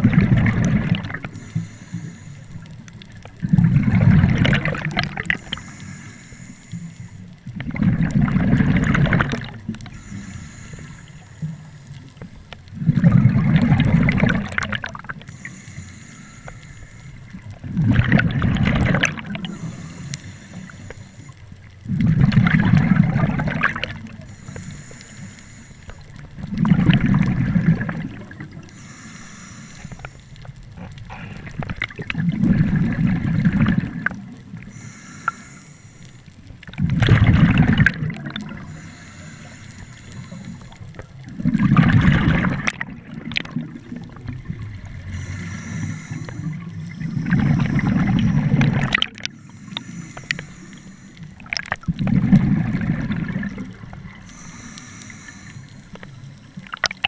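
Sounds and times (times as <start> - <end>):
exhaled bubbles gurgling underwater: 0.0 - 57.0
faint regulator hiss: 0.6 - 3.4, 4.8 - 7.6, 9.5 - 12.9, 14.4 - 17.8, 19.1 - 33.0, 33.8 - 36.8, 37.9 - 41.4, 42.6 - 57.0.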